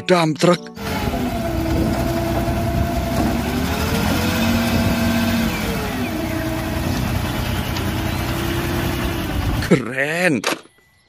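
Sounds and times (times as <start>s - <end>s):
truck engine running under load: 0.8s - 9.8s.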